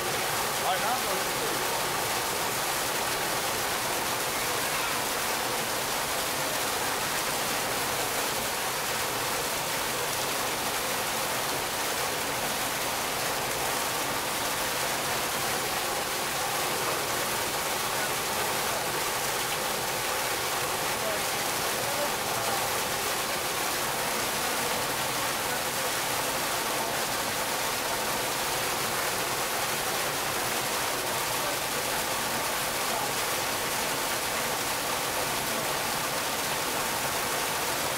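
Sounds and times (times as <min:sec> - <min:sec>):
water splashing into a pool: 0:00.0 - 0:37.9.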